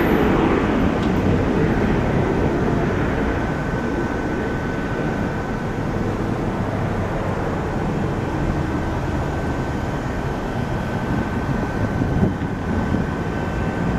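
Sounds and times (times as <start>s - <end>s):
distant jet rumble: 0.0s - 13.9s.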